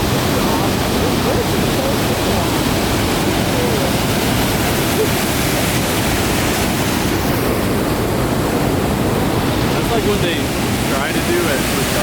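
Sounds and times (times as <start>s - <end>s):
rushing stream and waterfall: 0.0s - 12.0s.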